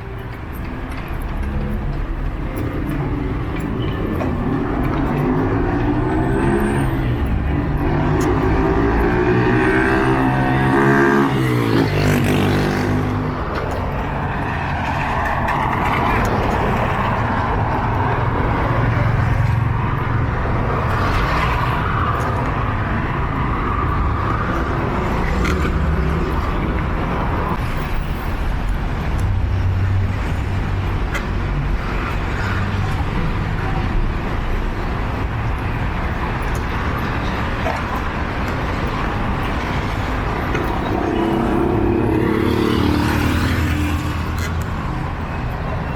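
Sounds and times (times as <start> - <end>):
cars passing: 0.0 - 45.9.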